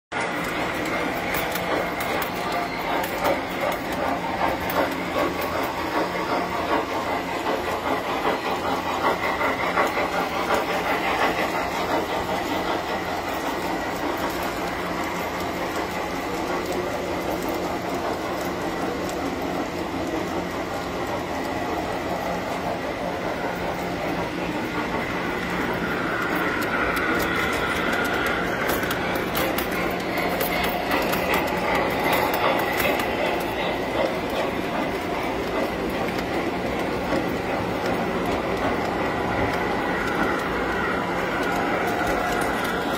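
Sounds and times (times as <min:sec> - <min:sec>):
train wheels clattering: 0:00.1 - 0:42.9
model train motor whirring: 0:00.2 - 0:42.9.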